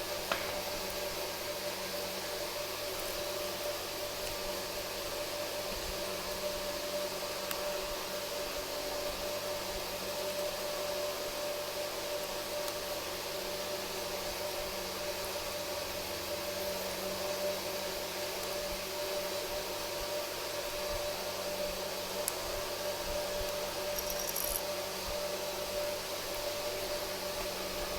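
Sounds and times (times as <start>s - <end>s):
motor hum with hiss: 0.0s - 27.9s.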